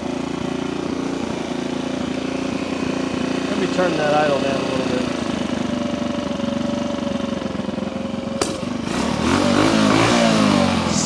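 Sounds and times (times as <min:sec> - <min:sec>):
small engine idling and revving: 0:00.0 - 0:11.0.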